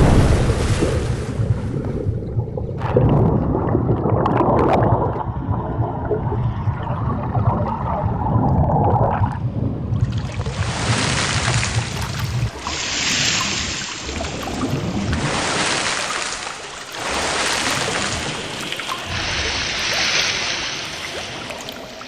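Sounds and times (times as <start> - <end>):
water splashing around swimmers: 0.0 - 6.0, 10.0 - 22.0.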